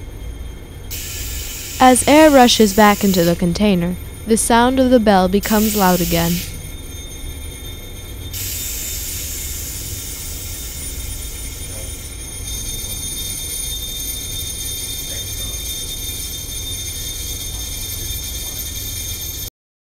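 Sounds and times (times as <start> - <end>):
electric bell ringing: 0.0 - 19.5.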